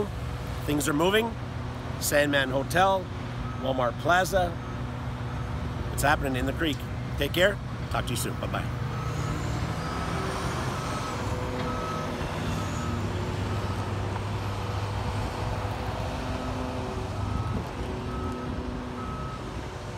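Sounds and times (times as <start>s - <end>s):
low rumble of engines and traffic: 0.0s - 19.9s.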